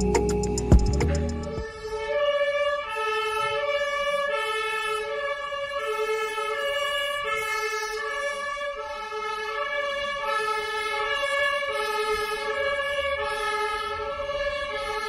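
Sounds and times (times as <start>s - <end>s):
two-tone emergency siren: 0.0s - 15.0s.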